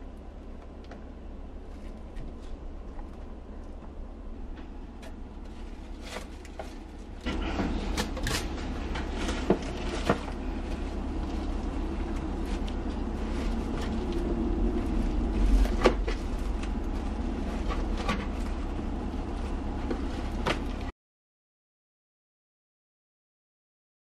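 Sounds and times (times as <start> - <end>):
low background hum: 0.0 - 20.9
soft rustles: 1.6 - 20.9.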